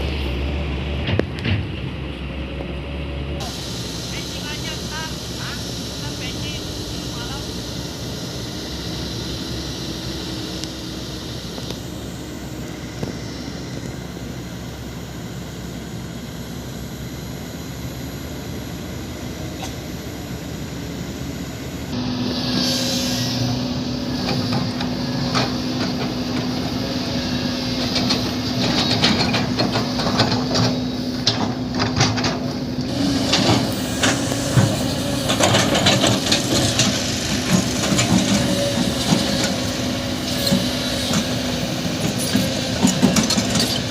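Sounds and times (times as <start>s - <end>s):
diesel machinery engine drone: 0.0s - 43.9s.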